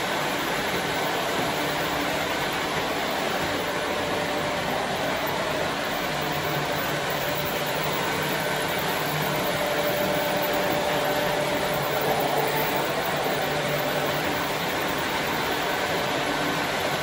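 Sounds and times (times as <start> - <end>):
model trains rolling rumble: 0.0 - 17.0.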